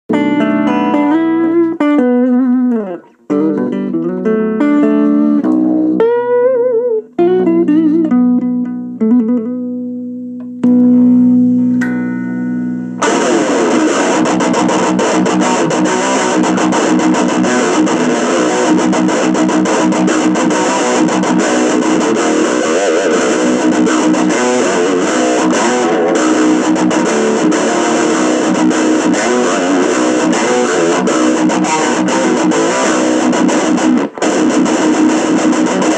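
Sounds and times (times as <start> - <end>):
distorted electric guitar: 0.0 - 35.9
clean electric guitar notes: 0.1 - 35.9.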